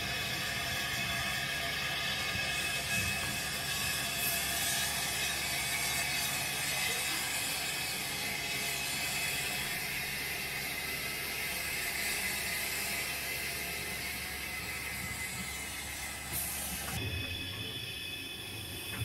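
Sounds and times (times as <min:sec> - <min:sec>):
model train rattling on track: 0:00.0 - 0:19.0.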